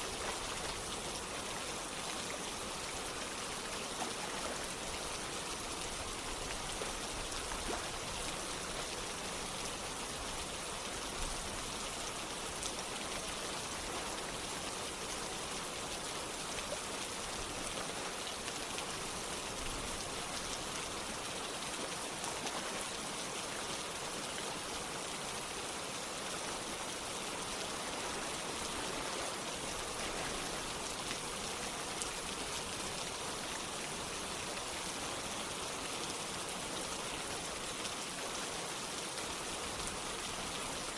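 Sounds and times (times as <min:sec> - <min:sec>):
flowing water rushing: 0:00.0 - 0:40.9
rain drops pattering: 0:00.0 - 0:40.9.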